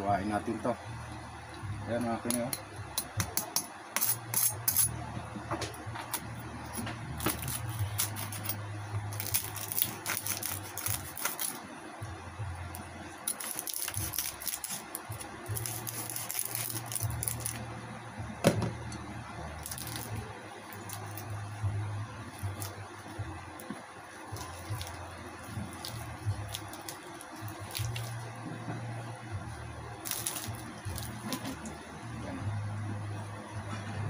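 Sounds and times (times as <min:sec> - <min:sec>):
low hum: 0:04.1 - 0:34.0.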